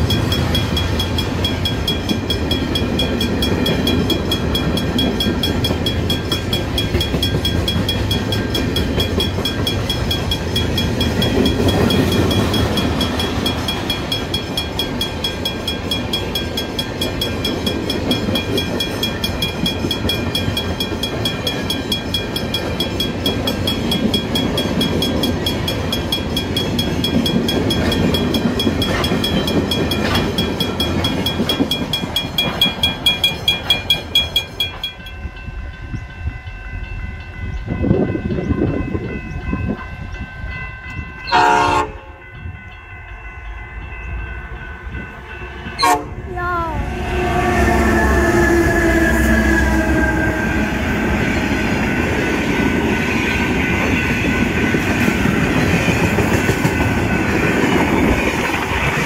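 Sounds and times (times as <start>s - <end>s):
crossing warning bell ringing: 0.0s - 59.0s
freight train rumbling: 0.0s - 59.0s.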